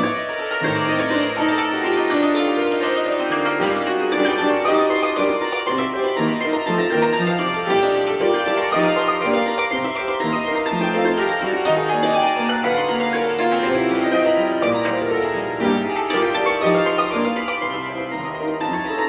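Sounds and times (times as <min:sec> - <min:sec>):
cimbalom playing: 0:00.0 - 0:19.0.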